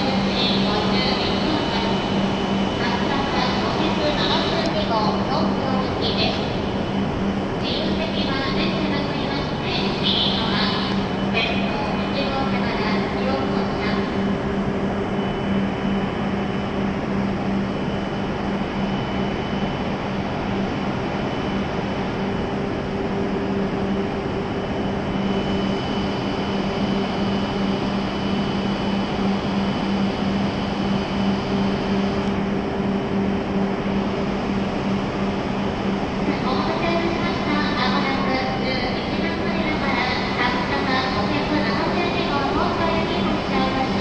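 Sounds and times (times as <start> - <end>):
faint high whine: 0.0 - 44.0
train equipment hum and whir: 0.0 - 44.0.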